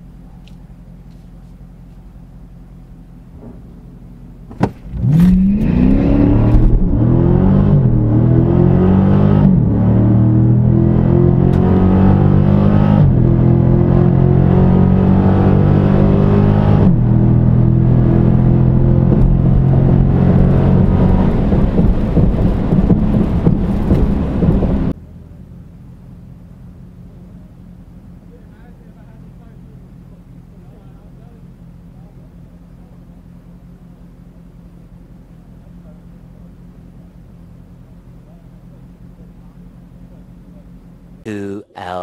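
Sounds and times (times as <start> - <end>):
car engine at full throttle: 0.0 - 42.0.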